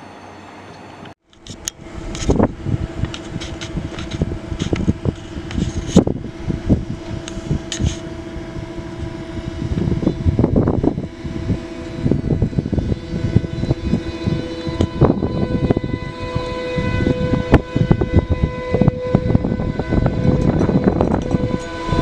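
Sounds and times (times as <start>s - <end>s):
train equipment humming: 0.0s - 22.0s
low thumps: 1.8s - 22.0s.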